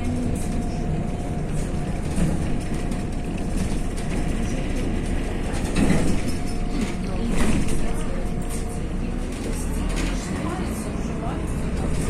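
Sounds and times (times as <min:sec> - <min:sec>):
rattles and knocks from bus body: 0:00.0 - 0:10.3
bus engine and road rumble: 0:00.0 - 0:12.0.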